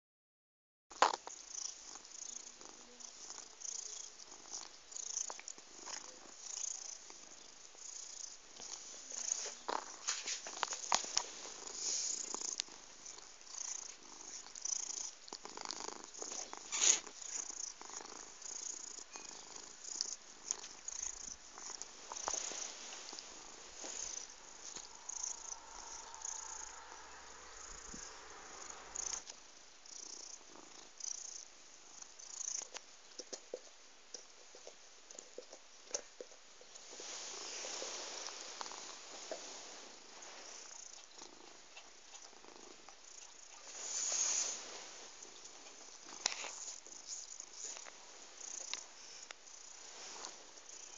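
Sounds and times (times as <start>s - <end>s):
cat purring: 0.9s - 50.9s.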